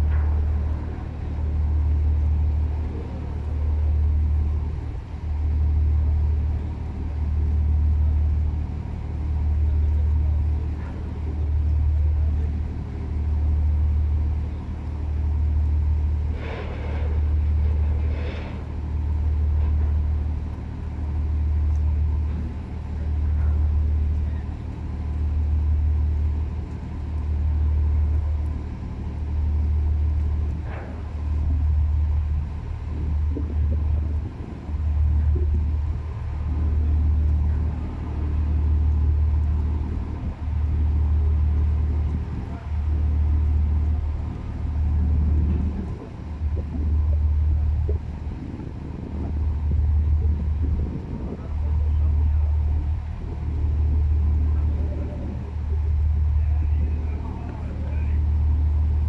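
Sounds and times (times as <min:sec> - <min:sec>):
ship engine rumble: 0:00.0 - 0:59.0.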